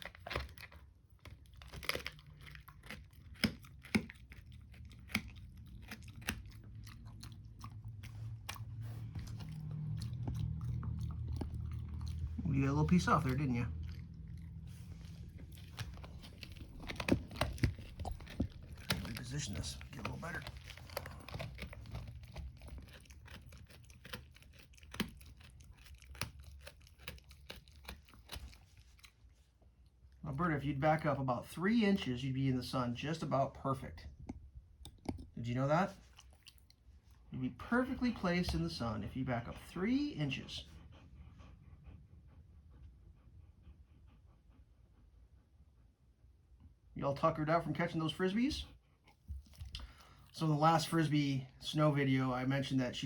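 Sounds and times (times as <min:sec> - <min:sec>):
dog chewing a bone: 0:00.0 - 0:32.2, 0:33.2 - 0:42.0, 0:47.6 - 0:53.0
low steady hum: 0:00.0 - 0:53.0.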